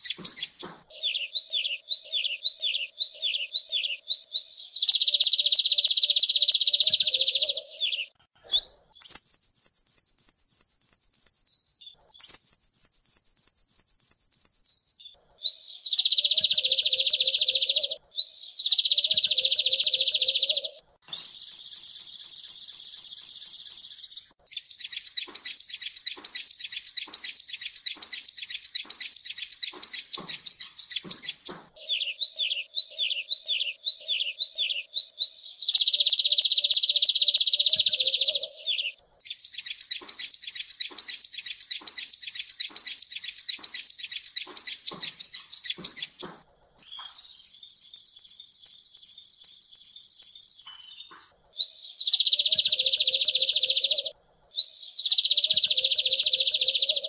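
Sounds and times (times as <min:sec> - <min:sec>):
bird trills and chirps: 0:00.0 - 0:57.0.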